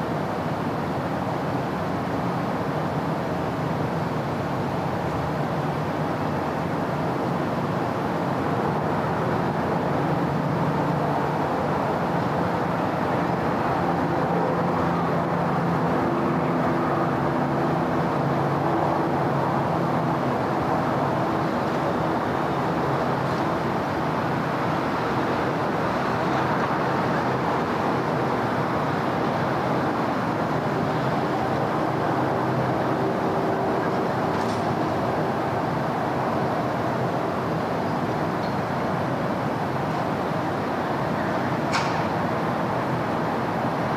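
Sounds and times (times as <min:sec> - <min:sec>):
road traffic passing: 0:05.5 - 0:43.9.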